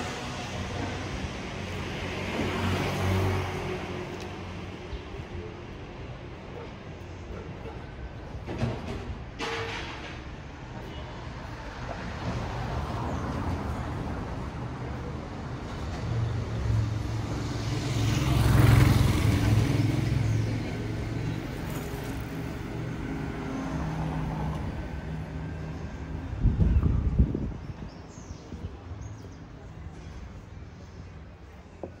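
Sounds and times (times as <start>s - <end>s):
low rumble of traffic: 0.0s - 32.0s.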